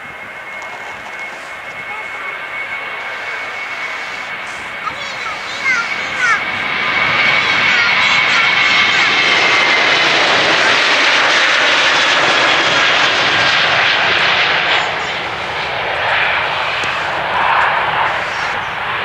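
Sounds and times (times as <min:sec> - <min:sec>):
high jet whine: 0:00.0 - 0:19.0
jet engine roar: 0:00.0 - 0:19.0.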